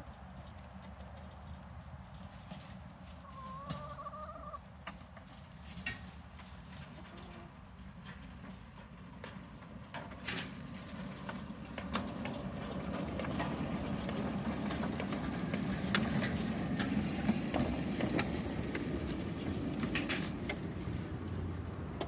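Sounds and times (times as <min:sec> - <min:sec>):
miniature train passing: 0:00.0 - 0:22.0
wheels clicking over track: 0:03.5 - 0:22.0.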